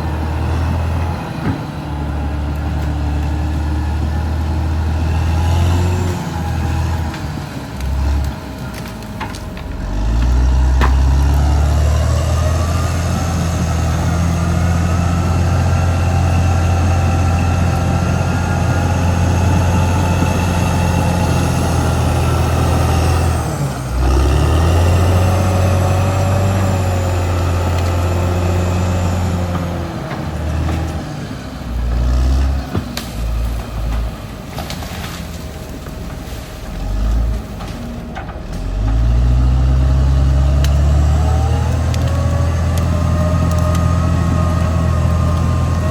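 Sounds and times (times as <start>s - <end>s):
bulldozer diesel engine under load: 0.0s - 45.9s.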